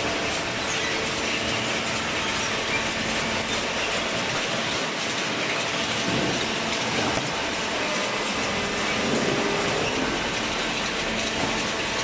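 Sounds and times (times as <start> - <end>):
conveyor mechanical clatter: 0.0 - 12.0.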